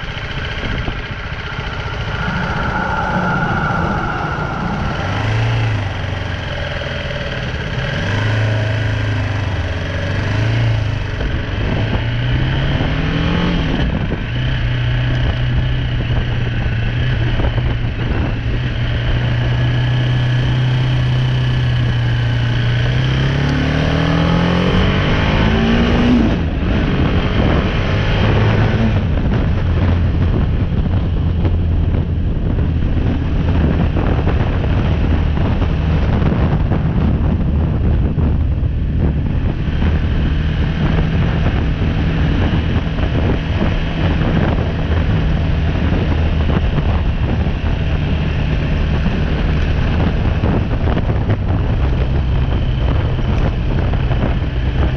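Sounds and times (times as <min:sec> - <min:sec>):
motorcycle engine accelerating: 0:00.0 - 0:54.9
wind noise on microphone: 0:00.0 - 0:54.9.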